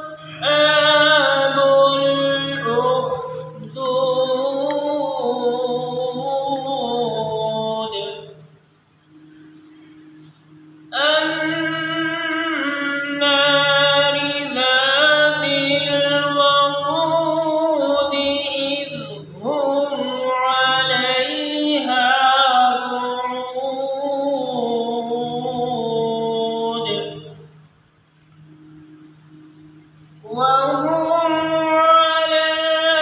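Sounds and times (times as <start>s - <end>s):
man chanting melodic recitation: 0.0s - 8.6s, 10.9s - 27.6s, 30.2s - 33.0s.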